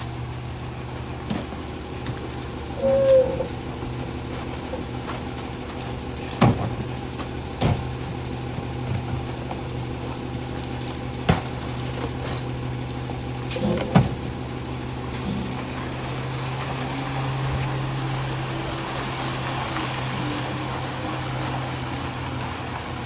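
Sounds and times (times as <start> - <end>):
garbage truck engine running: 0.0 - 23.0.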